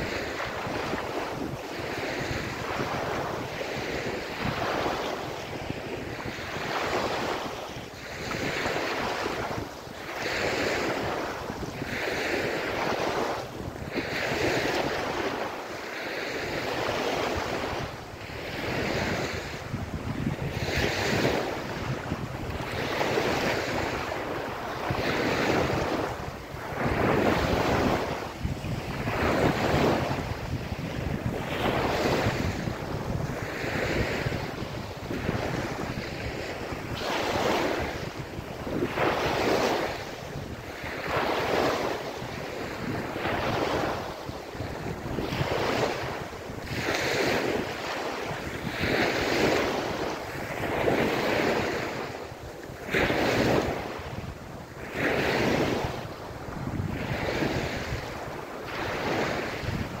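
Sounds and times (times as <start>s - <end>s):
small waves washing on sand: 0.0s - 60.0s
wind rumble on microphone: 0.0s - 60.0s.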